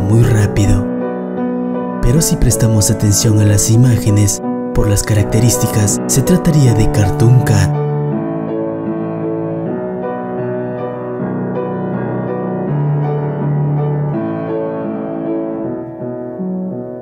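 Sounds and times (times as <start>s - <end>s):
slow piano-like keyboard chords: 0.0s - 17.0s.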